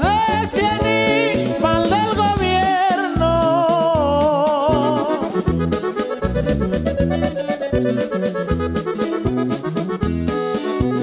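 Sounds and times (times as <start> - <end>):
bass notes: 0.0 - 11.0
button accordion melody: 0.0 - 11.0.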